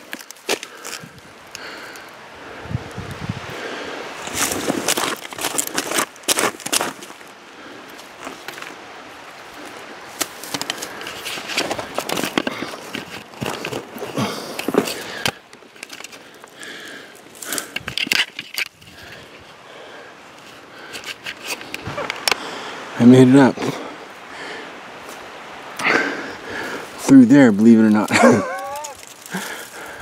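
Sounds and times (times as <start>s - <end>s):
dry brush and twigs crackling: 0.0s - 2.2s, 2.9s - 22.5s, 26.5s - 30.0s.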